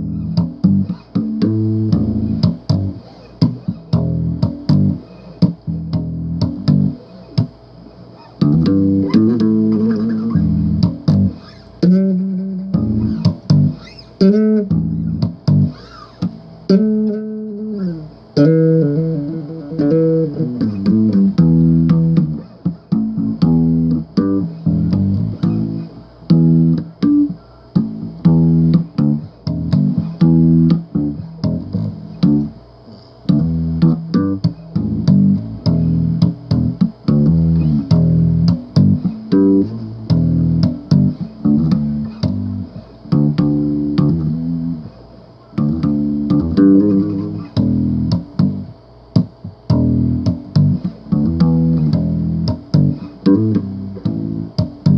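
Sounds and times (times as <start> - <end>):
bass guitar riffing: 0.0 - 54.9.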